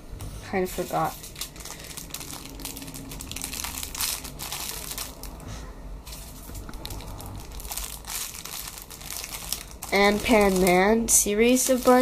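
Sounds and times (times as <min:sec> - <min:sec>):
plastic bags crinkling: 0:01.0 - 0:05.5, 0:06.1 - 0:12.0.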